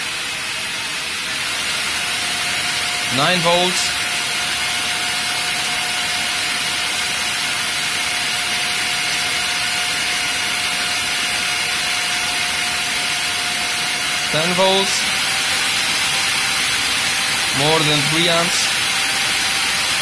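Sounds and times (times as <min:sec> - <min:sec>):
fan running with humming tone: 0:00.0 - 0:20.0.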